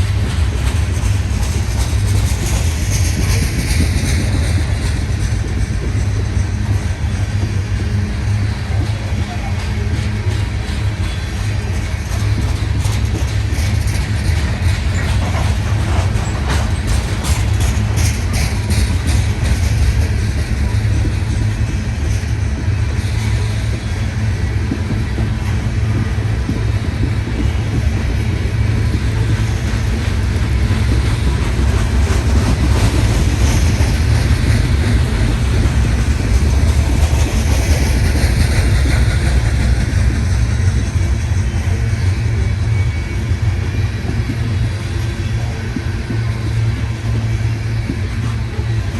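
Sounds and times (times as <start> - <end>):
train rumbling past: 0.0 - 48.9
wheels clacking over rail joints: 0.0 - 48.9.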